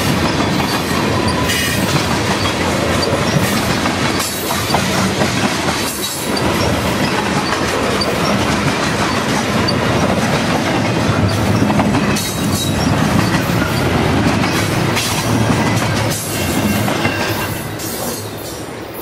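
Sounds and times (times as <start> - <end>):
steel wheels clacking over rail joints: 0.0 - 18.6
freight train rolling past: 0.0 - 19.0.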